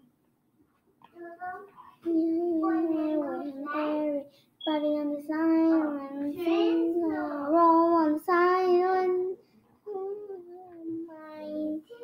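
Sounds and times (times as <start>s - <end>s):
girl singing: 1.0s - 12.0s.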